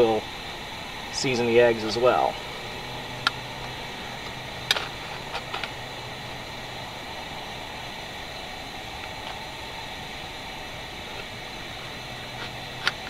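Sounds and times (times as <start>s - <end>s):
camp stove burner hissing: 0.0s - 13.0s.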